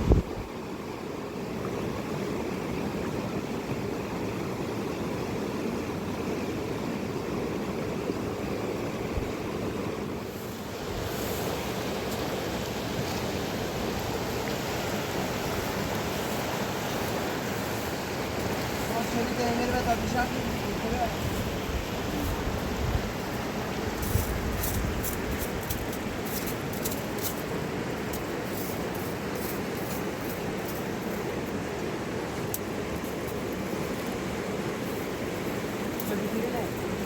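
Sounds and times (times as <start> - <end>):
mountain river rushing: 0.0 - 37.0.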